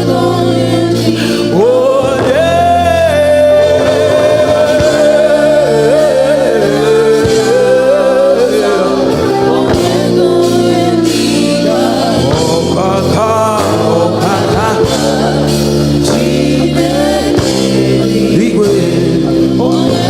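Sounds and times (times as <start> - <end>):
keyboard and band accompaniment: 0.0 - 20.0
person singing wordless notes: 0.0 - 20.0.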